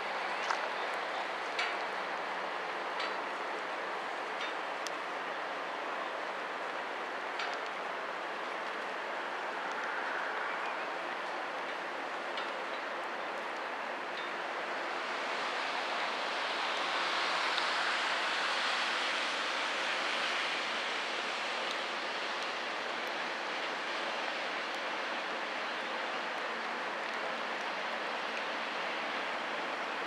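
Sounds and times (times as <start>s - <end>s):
moving water: 0.0s - 30.0s
pouring rain: 0.0s - 30.0s.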